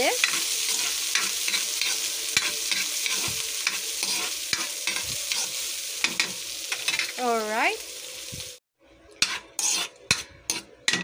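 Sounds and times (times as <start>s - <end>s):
food sizzling in oil in a pan: 0.0s - 8.6s, 9.2s - 11.0s
spatula scraping a pan: 0.1s - 7.1s, 9.2s - 11.0s.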